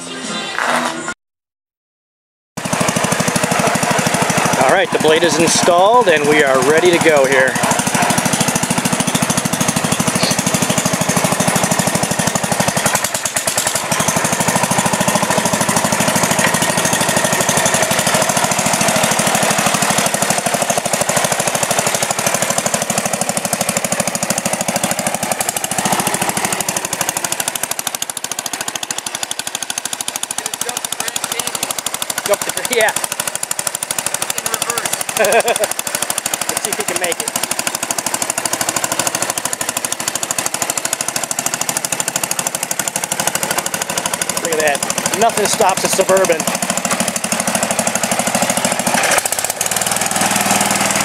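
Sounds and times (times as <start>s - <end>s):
garden tractor engine chattering: 2.6s - 51.0s.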